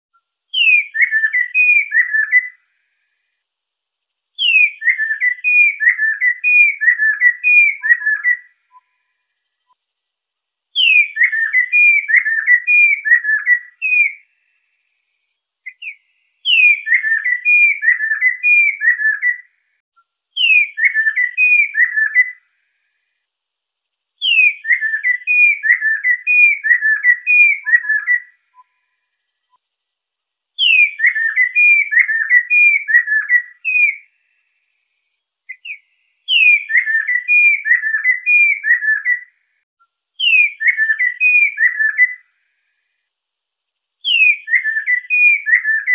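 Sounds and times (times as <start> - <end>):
bird whistled song: 0.1 - 2.7, 4.4 - 9.8, 10.8 - 14.8, 15.6 - 23.0, 24.2 - 29.6, 30.6 - 39.6, 40.2 - 42.3, 44.0 - 45.9.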